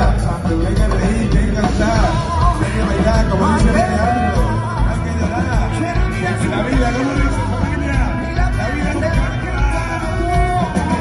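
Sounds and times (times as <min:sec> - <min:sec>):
funk rock band playing: 0:00.0 - 0:11.0.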